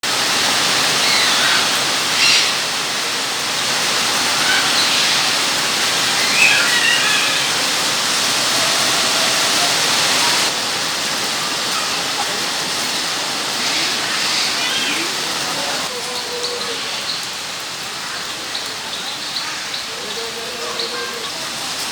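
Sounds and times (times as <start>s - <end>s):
falling water rushing: 0.0s - 21.9s.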